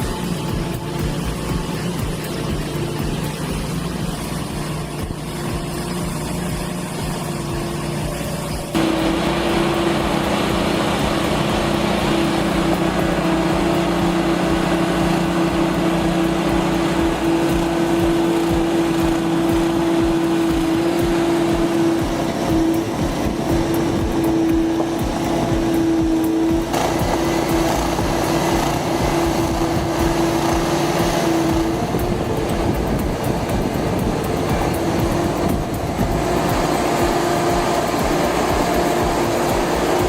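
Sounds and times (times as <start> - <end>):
truck engines running under load: 0.0 - 40.0.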